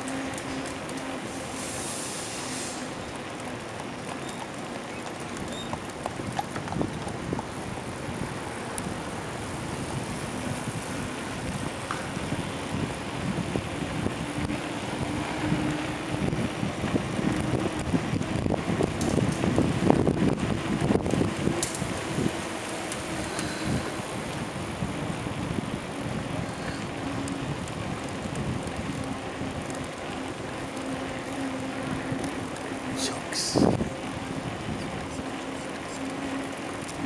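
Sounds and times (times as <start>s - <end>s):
bicycle road noise: 0.0s - 37.0s
wind buffeting microphone: 0.0s - 37.0s.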